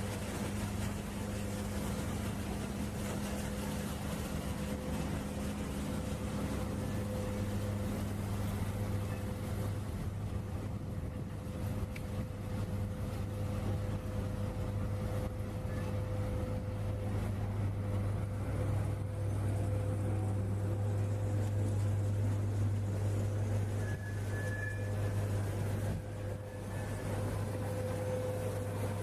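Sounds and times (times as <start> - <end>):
factory machine hum: 0.0 - 29.0.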